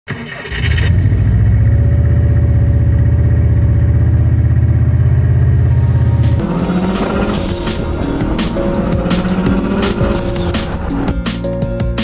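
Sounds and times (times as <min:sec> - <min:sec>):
diesel truck engine running: 0:00.5 - 0:12.0.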